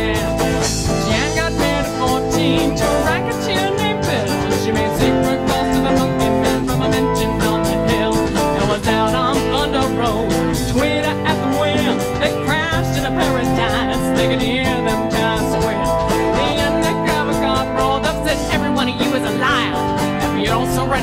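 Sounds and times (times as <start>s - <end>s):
drum kit beat: 0.0s - 21.0s
guitars playing: 0.0s - 21.0s
keyboard playing: 0.0s - 21.0s
person singing: 0.0s - 21.0s.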